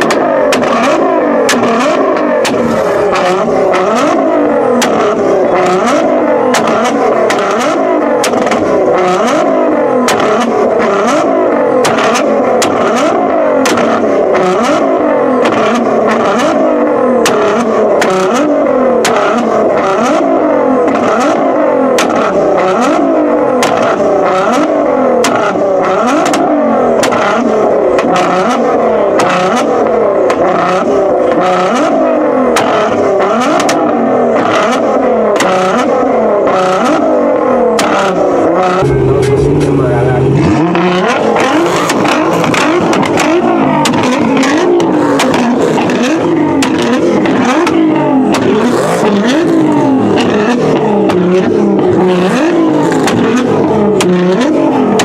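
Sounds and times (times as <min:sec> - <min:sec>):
exhaust pops and crackles: 0:00.0 - 0:16.6, 0:17.2 - 0:55.0
car engine revving hard: 0:00.0 - 0:55.0.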